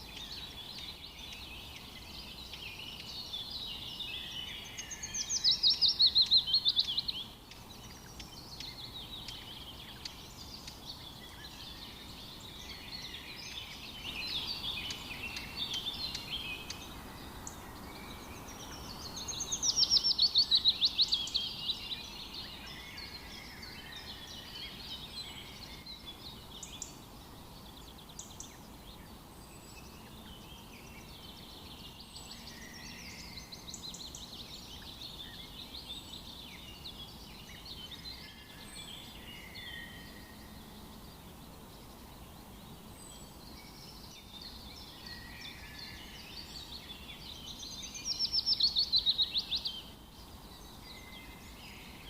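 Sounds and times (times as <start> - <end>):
birds chirping and singing: 0.0 - 52.0.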